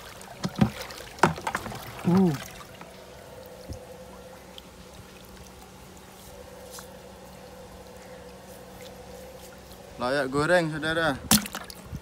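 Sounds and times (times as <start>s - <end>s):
water trickling and pouring: 0.0s - 10.0s
steady low hum: 0.0s - 12.0s.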